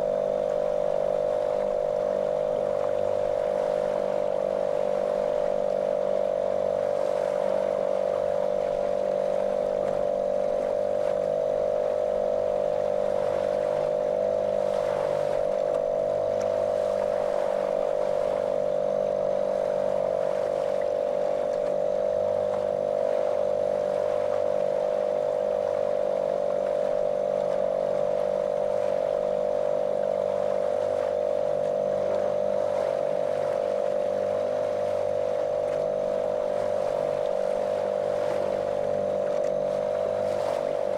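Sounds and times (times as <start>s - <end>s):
motorboat motor droning: 0.0s - 40.9s.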